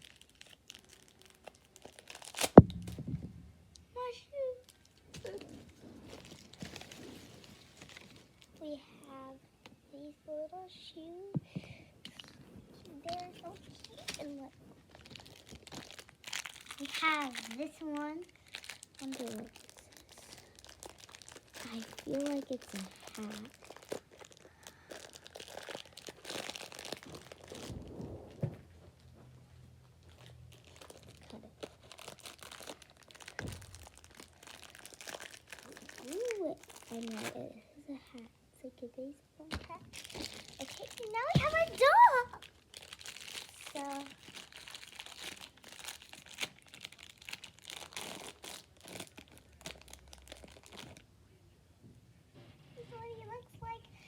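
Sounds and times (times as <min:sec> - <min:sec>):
plastic packaging crinkling and tearing: 0:00.0 - 0:08.7, 0:12.1 - 0:37.6, 0:39.5 - 0:51.1.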